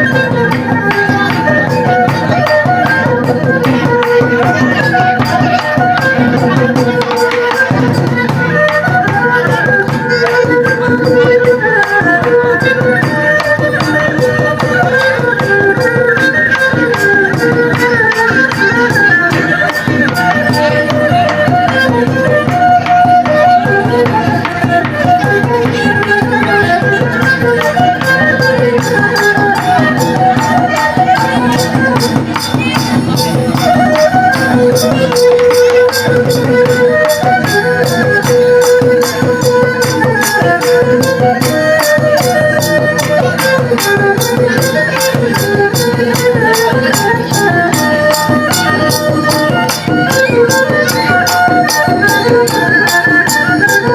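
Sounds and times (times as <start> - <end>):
drums and hand percussion: 0.0 - 53.9
traditional folk dance music: 0.0 - 53.9.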